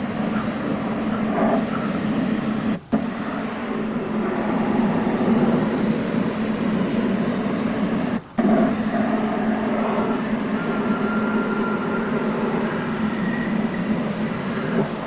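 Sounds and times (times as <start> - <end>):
machine humming and hissing: 0.0 - 15.0.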